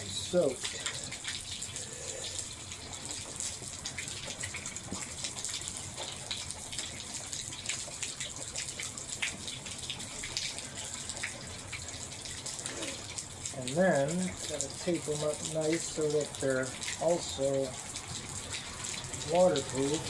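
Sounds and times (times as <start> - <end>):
steady rain: 0.0 - 20.0
water running and dripping: 0.0 - 20.0.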